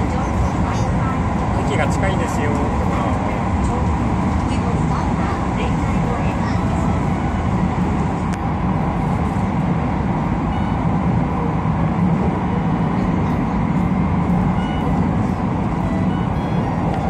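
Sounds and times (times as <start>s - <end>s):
train wheels on rails in tunnel: 0.0s - 17.0s.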